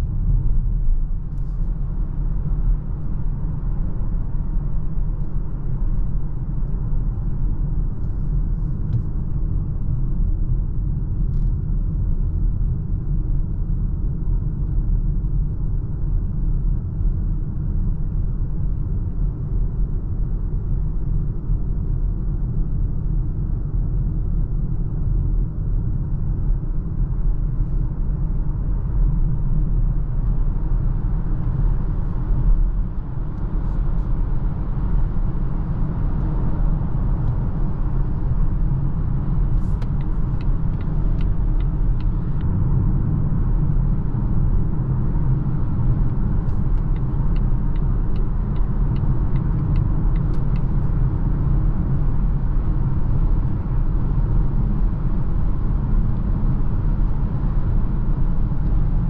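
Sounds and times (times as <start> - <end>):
road and tyre rumble: 0.0 - 59.0
wind noise in car cabin: 0.0 - 59.0.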